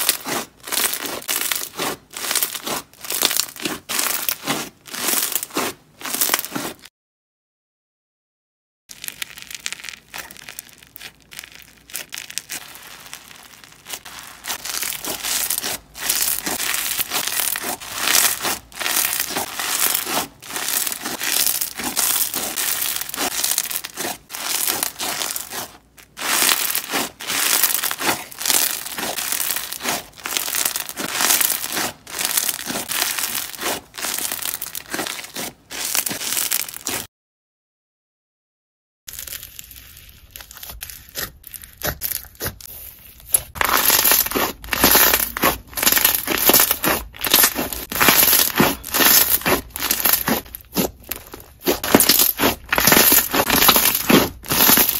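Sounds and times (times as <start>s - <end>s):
slime crackling and squishing: 0.0s - 6.9s, 8.9s - 37.1s, 39.1s - 54.9s.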